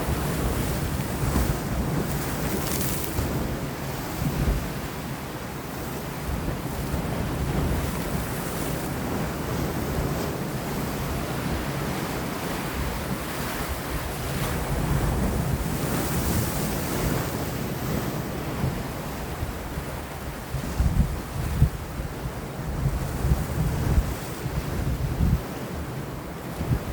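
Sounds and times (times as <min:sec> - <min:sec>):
sea waves against rocks: 0:00.0 - 0:26.9
wind on microphone: 0:00.0 - 0:26.9.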